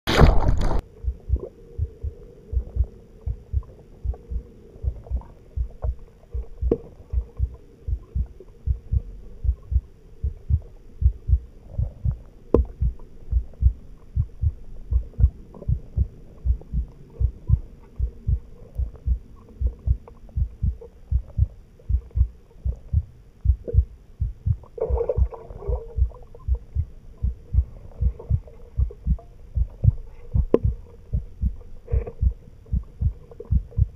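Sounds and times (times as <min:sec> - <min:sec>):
low muffled thumps: 0:00.1 - 0:33.9
underwater hum: 0:00.1 - 0:33.9.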